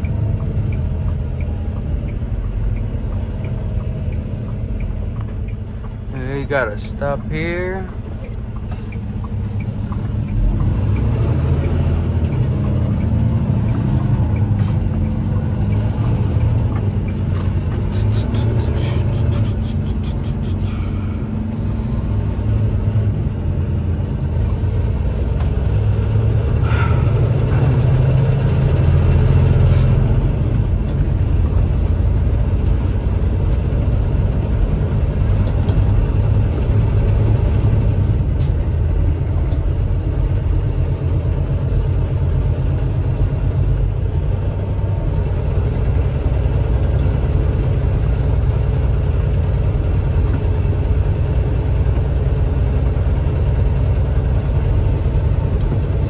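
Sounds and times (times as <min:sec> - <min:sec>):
diesel engine rumble: 0:00.0 - 0:56.0
road noise: 0:00.0 - 0:56.0.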